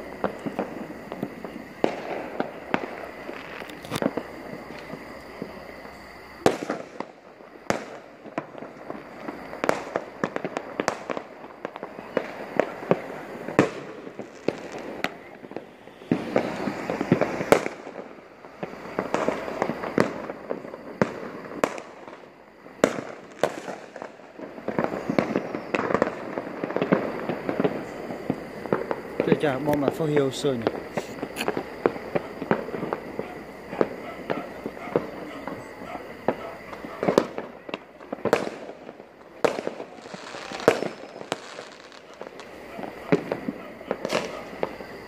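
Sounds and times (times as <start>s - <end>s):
fireworks bangs and cracks: 0.0s - 45.0s
fireworks crackling: 0.0s - 45.0s.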